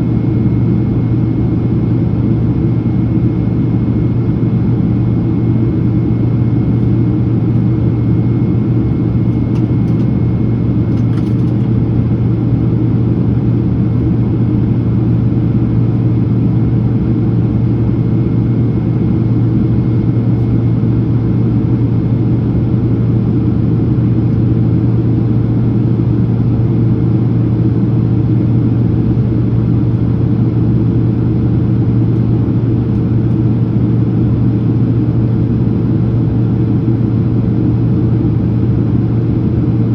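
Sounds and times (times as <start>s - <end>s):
jet engine and airflow drone: 0.0s - 39.9s.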